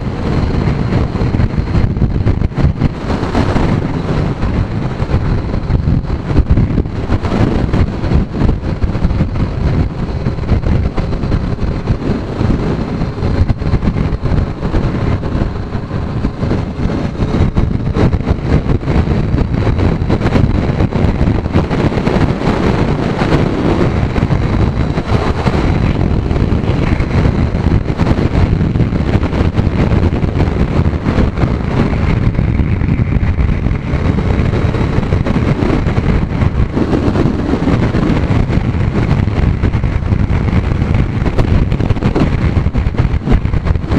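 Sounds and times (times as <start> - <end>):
motorcycle engine running: 0.0 - 43.9
wind buffeting microphone: 0.0 - 43.9.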